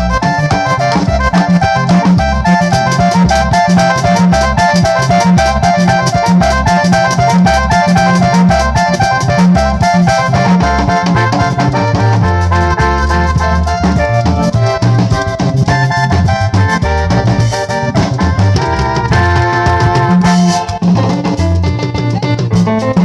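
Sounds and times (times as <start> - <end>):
instrumental music with heavy bass: 0.0 - 23.0.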